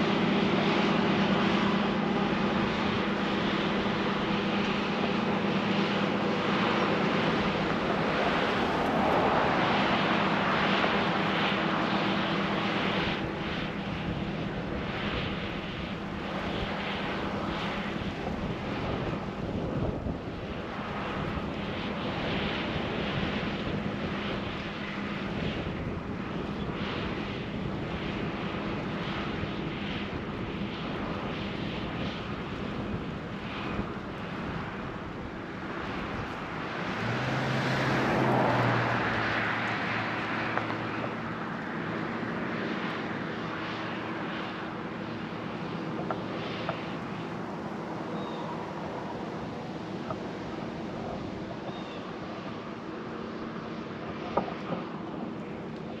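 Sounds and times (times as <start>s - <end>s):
drone propellers buzzing: 0.0s - 56.0s.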